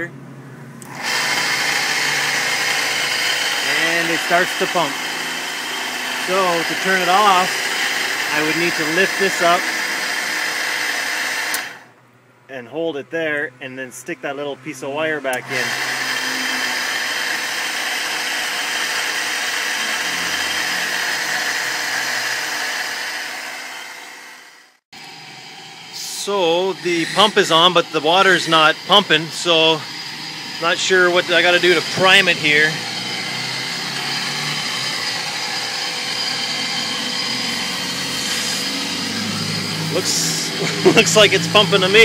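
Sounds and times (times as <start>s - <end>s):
water pump motor whirring: 0.8s - 12.0s, 14.8s - 42.0s.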